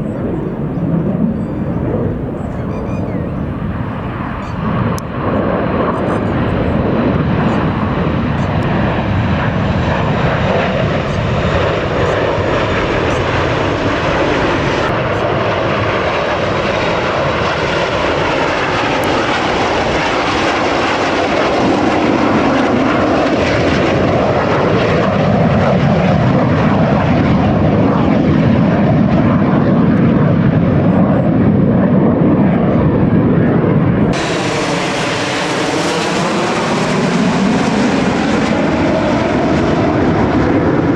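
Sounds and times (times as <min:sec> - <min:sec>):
jet aircraft flying past: 0:00.0 - 0:40.9.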